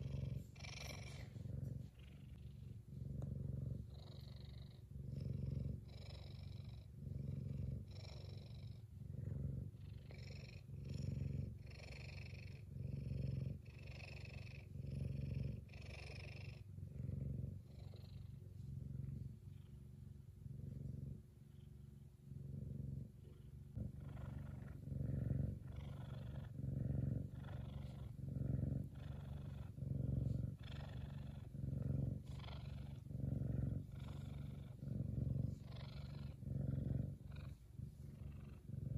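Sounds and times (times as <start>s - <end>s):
cat purring loudly: 0.0s - 38.9s.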